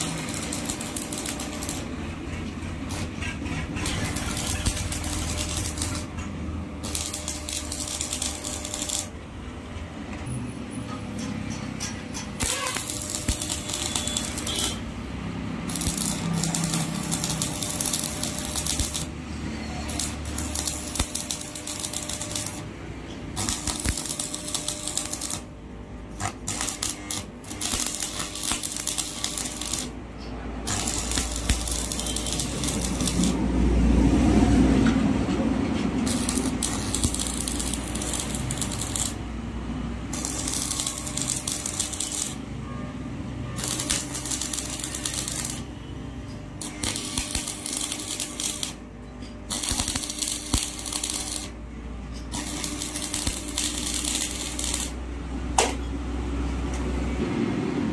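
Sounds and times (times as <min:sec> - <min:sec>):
welding arc crackling: 0:00.0 - 0:09.3, 0:11.8 - 0:35.0, 0:35.7 - 0:42.6, 0:43.6 - 0:45.9, 0:46.5 - 0:55.2.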